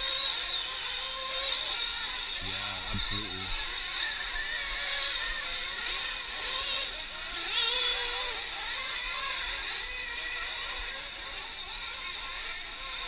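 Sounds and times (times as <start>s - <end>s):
rc truck engines whining: 0.0s - 13.0s.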